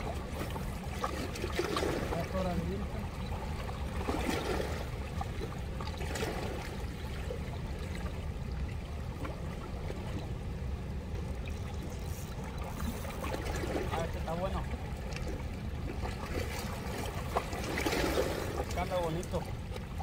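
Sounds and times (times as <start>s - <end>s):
river water flowing past rocks: 0.0s - 20.0s.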